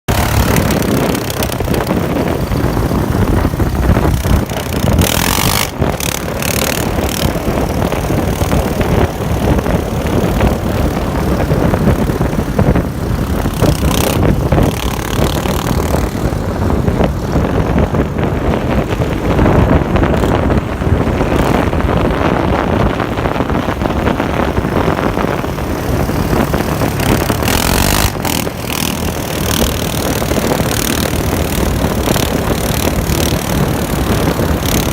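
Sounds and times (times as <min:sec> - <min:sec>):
road noise: 0:00.0 - 0:34.9
atv engines running: 0:00.1 - 0:34.9.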